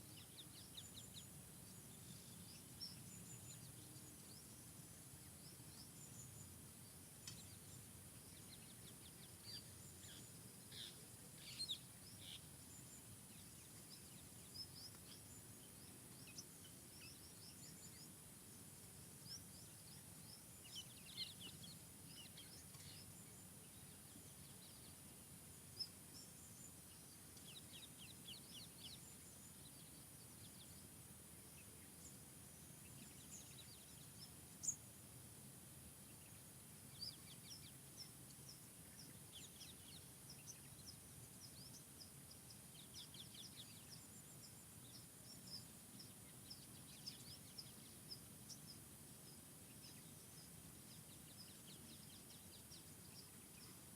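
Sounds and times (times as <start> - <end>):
low background hiss: 0.0 - 53.9
songbirds chirping and trilling: 0.0 - 53.9.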